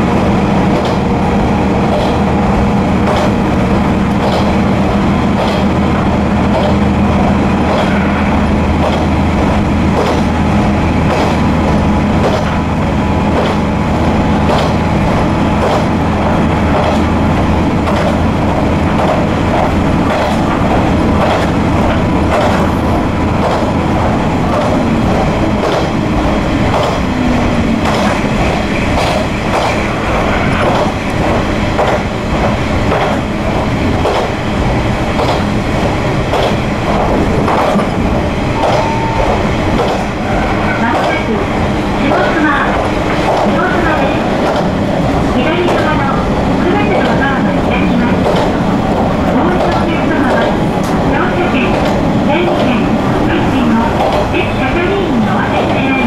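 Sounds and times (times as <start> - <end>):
wheels clacking over rail joints: 0.0 - 54.6
diesel railcar engine drone: 0.0 - 56.0.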